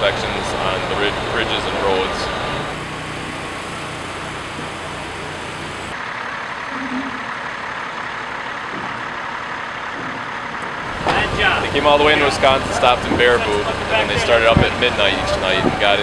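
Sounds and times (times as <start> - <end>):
low hum: 0.0 - 16.0
truck engine idling: 0.0 - 16.0.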